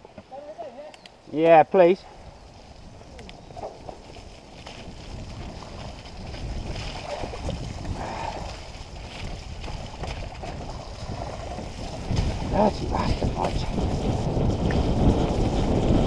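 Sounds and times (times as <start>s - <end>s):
bike tyres rolling through mud: 0.0s - 16.0s
wind buffeting microphone: 0.6s - 16.0s.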